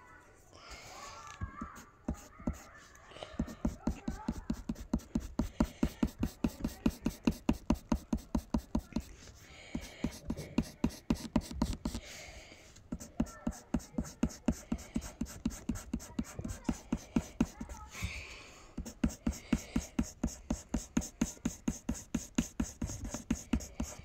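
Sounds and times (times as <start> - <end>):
pencil scratching on paper: 1.4 - 12.2, 12.8 - 17.9, 18.8 - 24.0.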